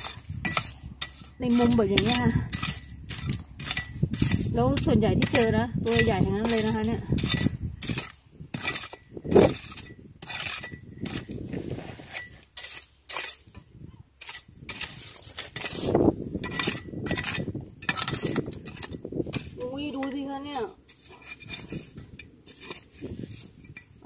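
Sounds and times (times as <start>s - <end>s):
metal rake scraping through gravel: 0.0s - 24.0s.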